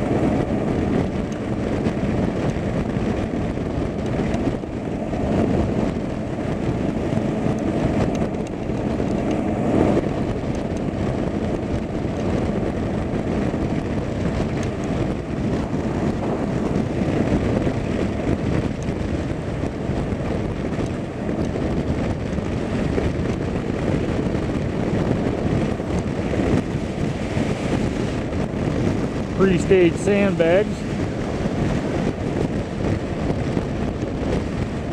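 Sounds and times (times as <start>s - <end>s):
road noise: 0.0s - 34.9s
vehicle engine rumble: 0.0s - 34.9s.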